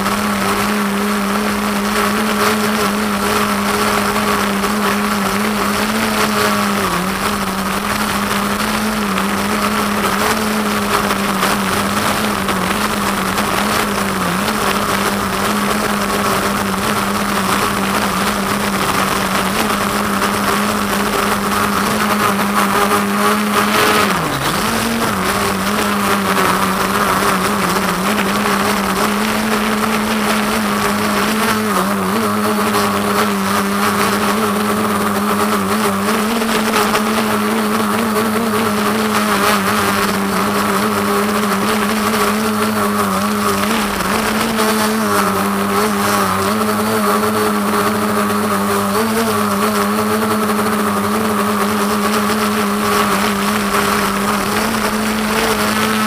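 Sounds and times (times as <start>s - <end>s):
quadcopter propellers buzzing: 0.0s - 56.0s.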